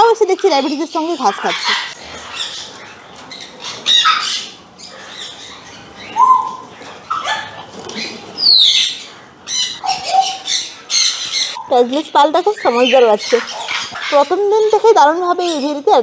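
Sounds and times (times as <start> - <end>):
parrots squawking: 0.0 - 16.0.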